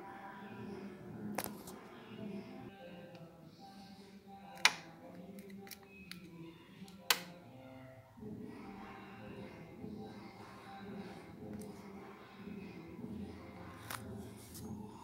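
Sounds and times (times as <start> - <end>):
faint music: 0.0 - 15.0.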